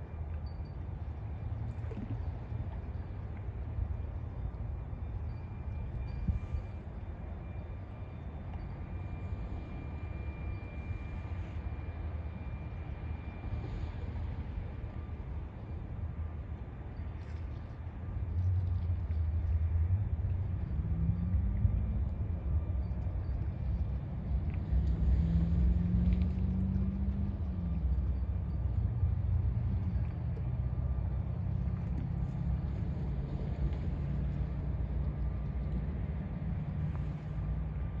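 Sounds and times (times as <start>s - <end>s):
engine drone: 0.0s - 38.0s
low rumble: 0.0s - 38.0s.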